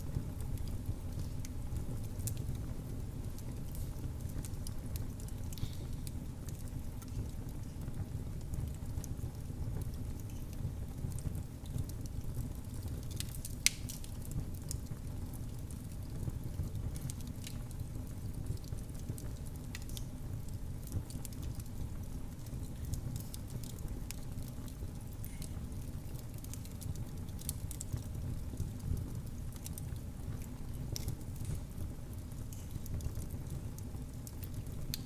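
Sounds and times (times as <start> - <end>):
fire crackling: 0.0 - 35.0
low rumble of flames: 0.0 - 35.0.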